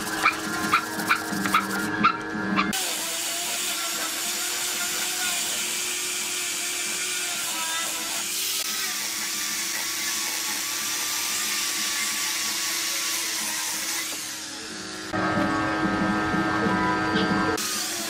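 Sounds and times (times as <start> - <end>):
angle grinder motor whine: 0.0 - 18.0.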